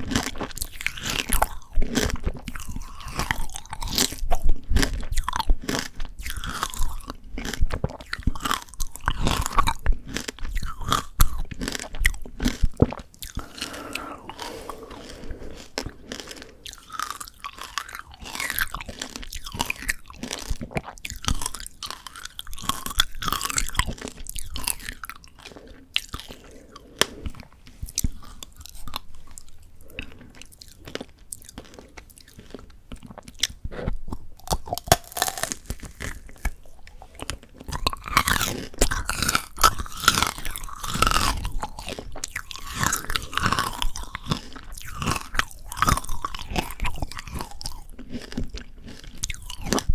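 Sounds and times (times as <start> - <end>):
wet chewing: 0.0 - 49.9
candy shell crunching: 0.1 - 49.9.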